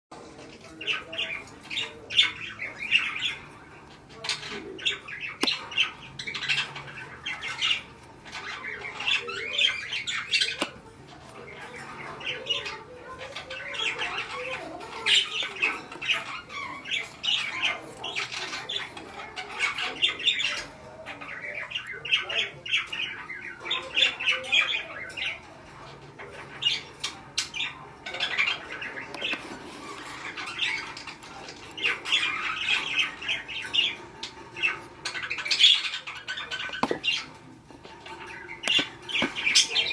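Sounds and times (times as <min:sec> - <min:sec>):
budgerigar chattering and squawking: 0:00.7 - 0:39.9.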